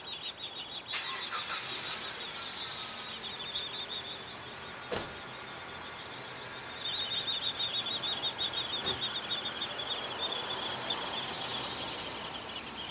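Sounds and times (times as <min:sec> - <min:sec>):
woodpecker nestlings squeaking: 0:00.0 - 0:12.9.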